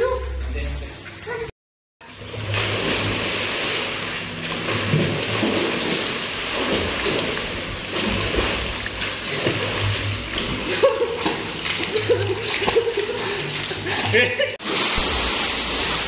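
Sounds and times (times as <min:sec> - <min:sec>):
swimmers splashing water: 0:02.0 - 0:16.0.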